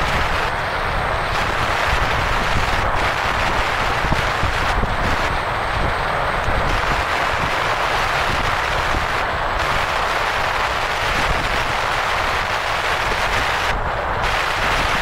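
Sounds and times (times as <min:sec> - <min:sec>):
wind rush: 0:00.0 - 0:15.0.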